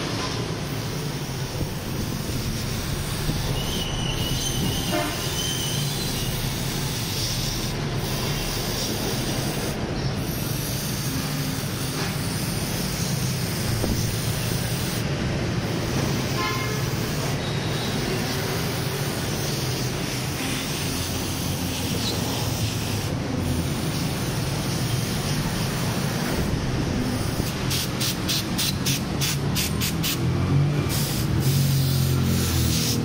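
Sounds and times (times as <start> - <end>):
aerosol spray hissing: 0.6 - 15.0, 15.6 - 33.0.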